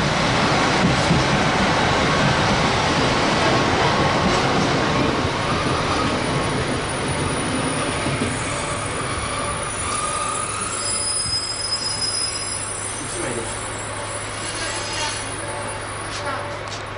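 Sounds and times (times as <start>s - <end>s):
train wheels rumbling on rails: 0.0s - 16.9s.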